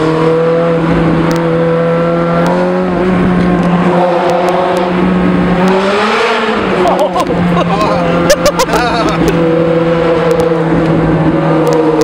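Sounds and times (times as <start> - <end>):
sports car engine running: 0.0 - 12.0.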